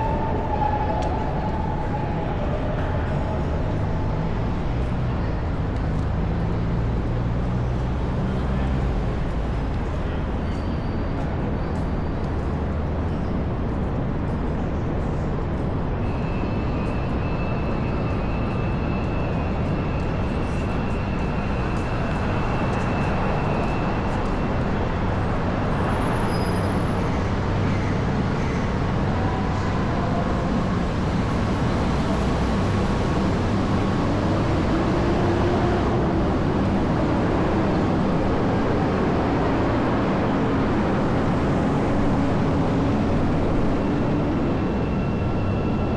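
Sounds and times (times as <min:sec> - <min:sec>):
cars and buses passing: 0:00.0 - 0:45.9.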